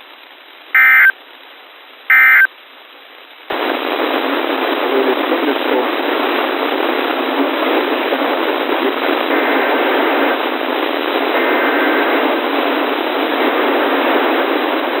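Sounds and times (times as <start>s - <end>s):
radio static hiss: 0.0s - 2.6s, 3.5s - 15.0s.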